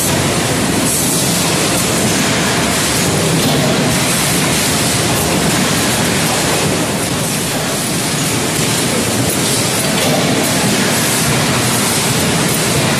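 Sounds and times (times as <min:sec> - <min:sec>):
forging hammer machinery: 0:00.0 - 0:12.9.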